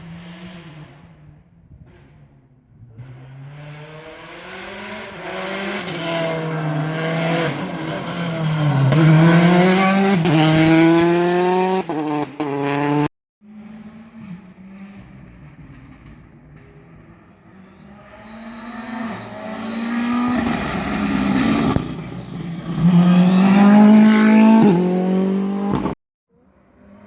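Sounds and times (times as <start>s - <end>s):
rally car engine at full throttle: 0.0s - 27.0s.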